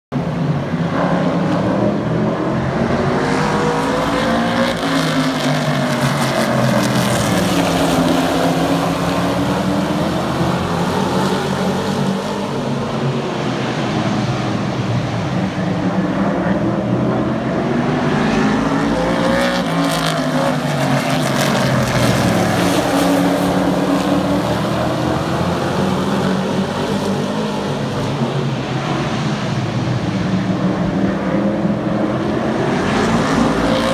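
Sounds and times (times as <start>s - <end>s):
race truck engines passing: 0.2s - 33.9s.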